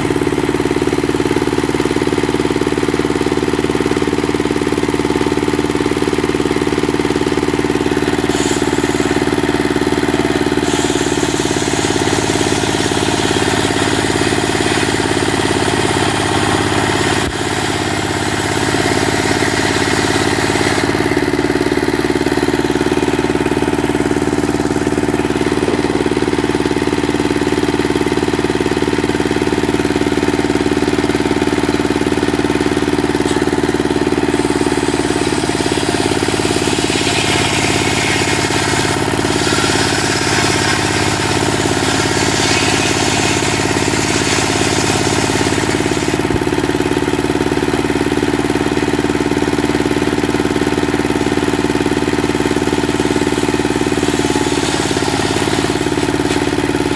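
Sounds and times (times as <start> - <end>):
circular saw cutting wood: 0.0 - 56.9
diesel engine running: 0.0 - 56.9.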